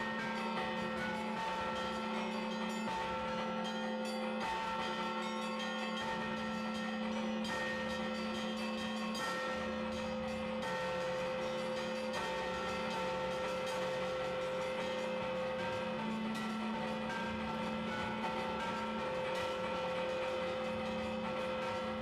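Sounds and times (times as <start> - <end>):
church bells ringing: 0.0 - 22.0
low bell strikes: 0.0 - 22.0.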